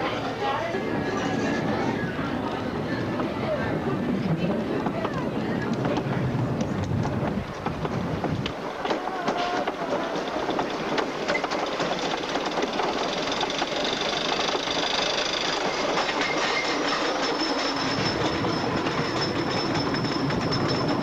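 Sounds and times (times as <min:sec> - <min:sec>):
roller coaster wheels and chain clatter: 0:00.0 - 0:21.0.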